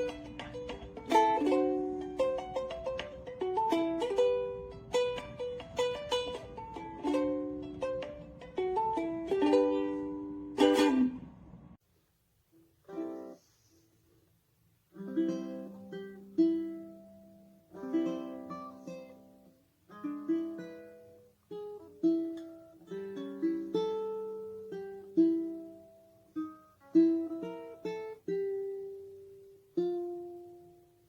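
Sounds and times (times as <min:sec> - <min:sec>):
ukulele plucked chords: 0:00.0 - 0:11.8, 0:12.8 - 0:13.5, 0:14.9 - 0:31.0.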